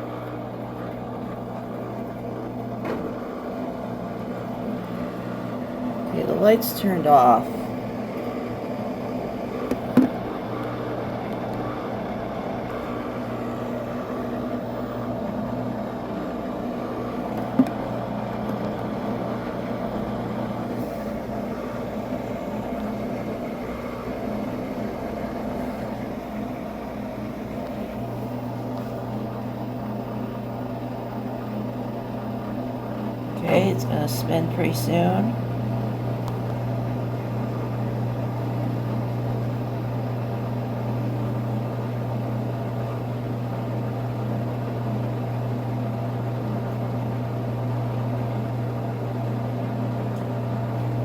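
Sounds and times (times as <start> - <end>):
washing machine humming: 0.0 - 51.0.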